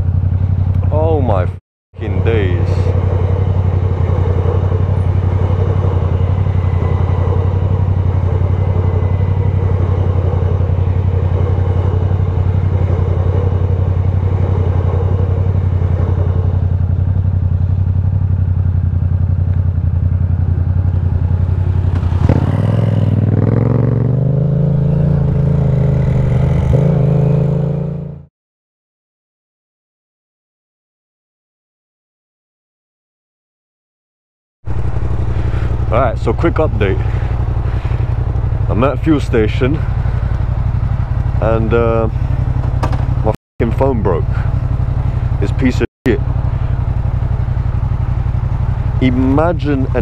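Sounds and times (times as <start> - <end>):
motorcycle engine running: 0.0 - 28.3, 34.7 - 50.0.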